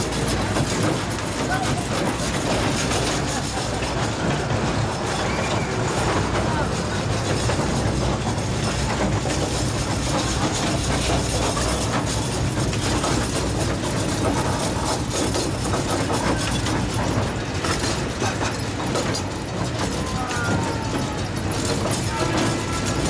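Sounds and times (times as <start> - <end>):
train wheels rolling on rails: 0.0 - 23.0.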